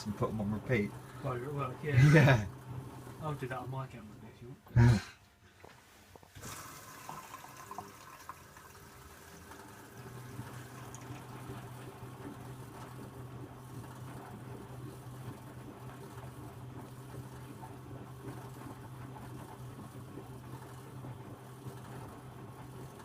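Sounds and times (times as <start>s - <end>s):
washing machine running: 0.0s - 5.1s, 6.3s - 23.0s.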